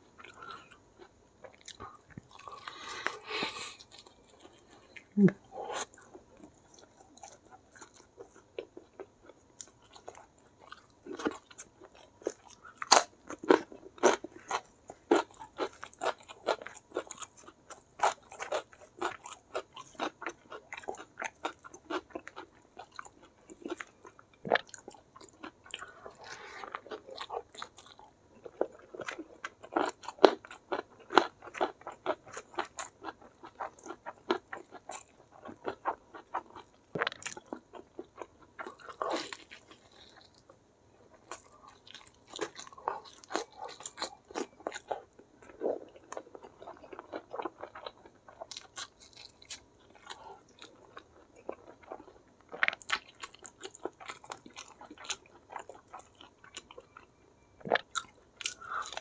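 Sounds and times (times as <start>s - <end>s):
crunchy chewing: 0.2s - 59.0s.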